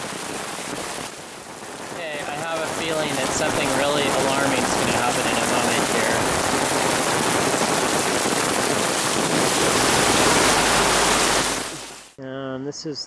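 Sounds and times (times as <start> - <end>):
heavy rain: 0.0 - 12.2
rushing stormwater: 0.0 - 12.2.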